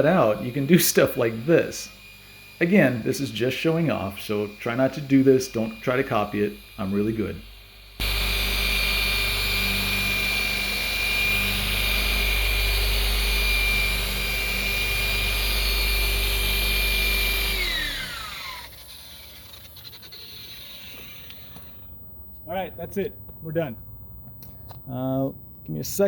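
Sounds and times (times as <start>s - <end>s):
rotary buffer motor whine: 0.0s - 25.3s.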